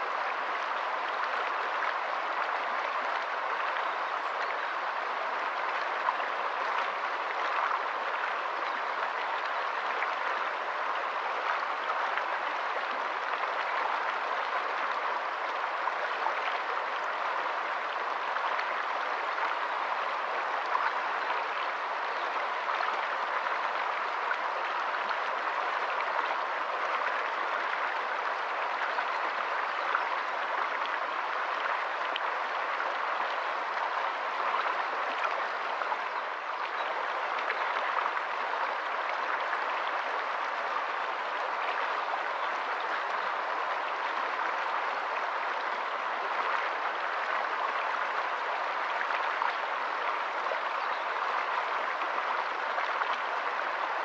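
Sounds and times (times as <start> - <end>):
stream flowing over stones: 0.0 - 54.0.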